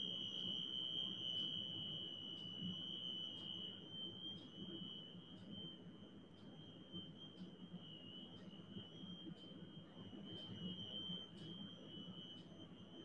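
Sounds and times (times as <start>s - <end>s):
faint ticks: 0.0s - 13.0s.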